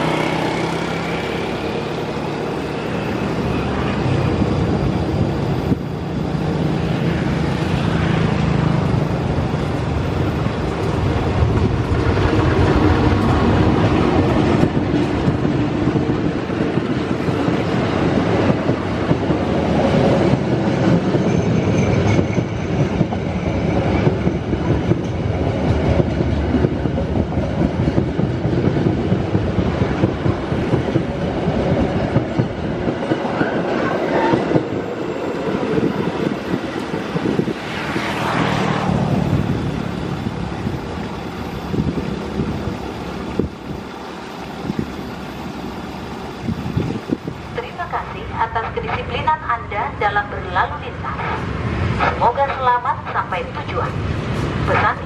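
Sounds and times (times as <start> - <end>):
wheels clickety-clack on rail joints: 0.0 - 49.1, 51.0 - 55.0
diesel locomotive engines droning: 0.0 - 55.0.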